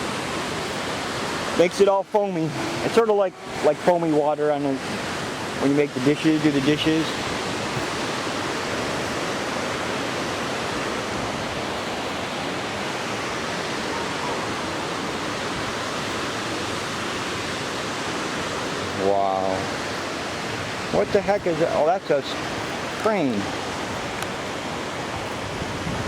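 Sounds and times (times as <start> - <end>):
water rushing from dam outlet: 0.0 - 26.0.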